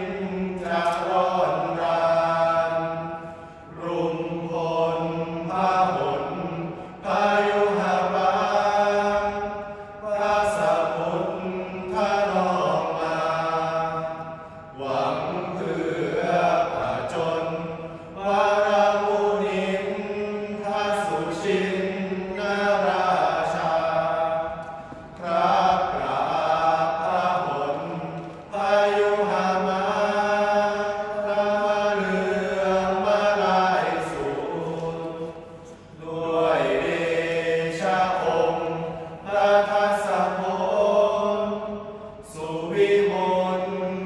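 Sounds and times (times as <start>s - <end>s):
men chanting in unison: 0.0s - 44.0s.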